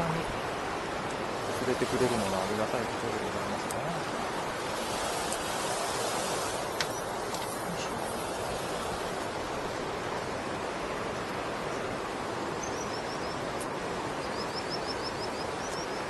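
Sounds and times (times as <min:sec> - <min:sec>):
river water pouring over weir: 0:00.0 - 0:16.0.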